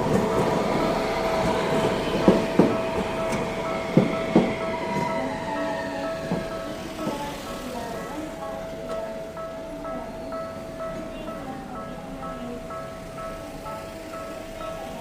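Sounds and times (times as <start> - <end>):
crossing warning signal tone: 0.0 - 15.0
tram wheels clacking over rail joints: 0.0 - 15.0.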